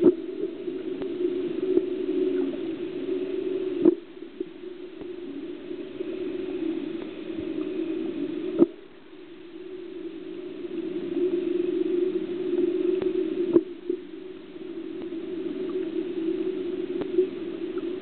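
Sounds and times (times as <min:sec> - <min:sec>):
muffled underwater hum: 0:00.0 - 0:18.0.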